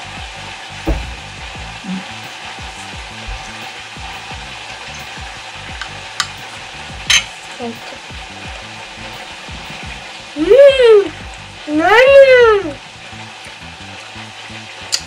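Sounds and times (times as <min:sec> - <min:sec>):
steady hiss: 0:00.0 - 0:11.8, 0:12.6 - 0:15.0.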